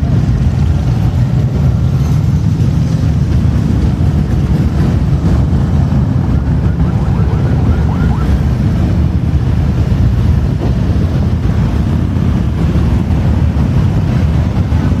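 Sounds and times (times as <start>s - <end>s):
motorcycle engine: 0.0s - 15.0s
wind buffeting microphone: 0.0s - 15.0s.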